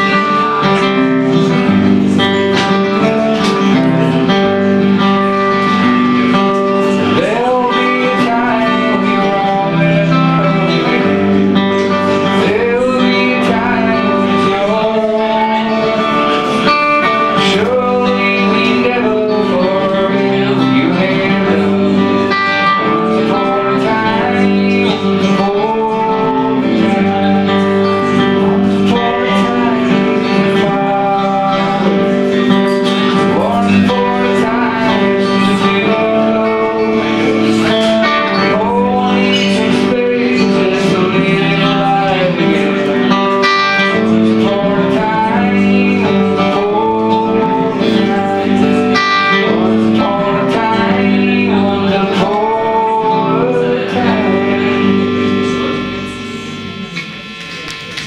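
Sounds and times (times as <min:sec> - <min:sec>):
man singing: 0:00.0 - 0:58.0
strummed acoustic guitar: 0:00.0 - 0:58.0.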